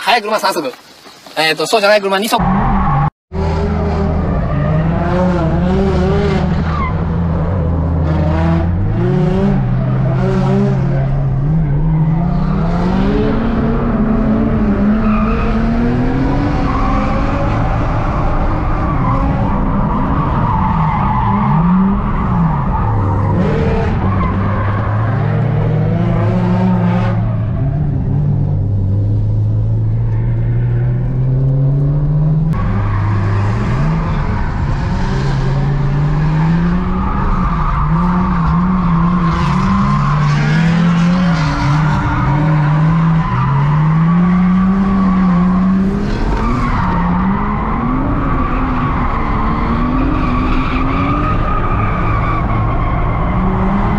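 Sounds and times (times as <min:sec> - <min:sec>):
car engine revving: 0:02.4 - 0:53.9.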